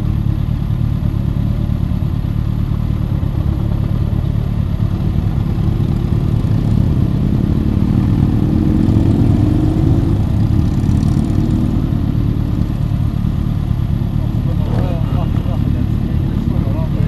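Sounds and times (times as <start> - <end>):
motorcycles riding past: 3.1 - 17.0.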